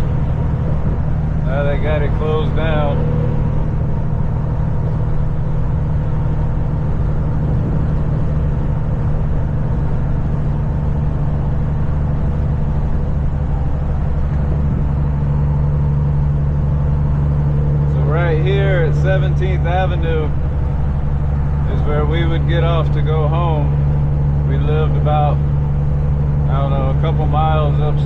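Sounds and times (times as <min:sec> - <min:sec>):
road noise: 0:00.0 - 0:28.0
truck diesel engine droning: 0:00.0 - 0:28.0.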